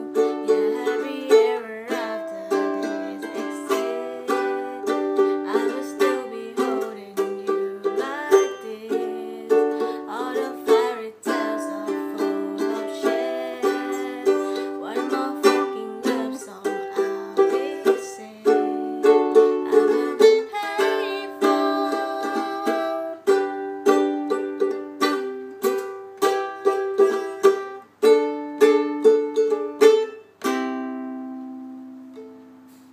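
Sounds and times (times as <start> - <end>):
ukulele strumming chords: 0.0 - 32.9.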